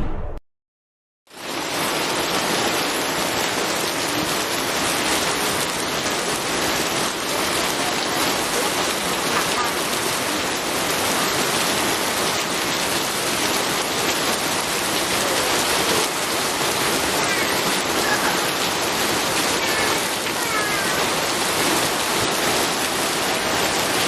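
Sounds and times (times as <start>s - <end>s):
heavy rainfall: 1.3s - 24.0s.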